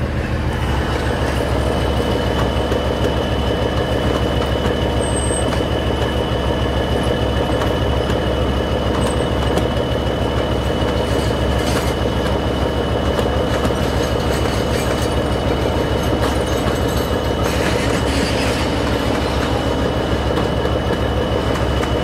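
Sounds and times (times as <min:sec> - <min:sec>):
train rumble: 0:00.0 - 0:22.0
train wheels clicking over rail joints: 0:00.0 - 0:22.0.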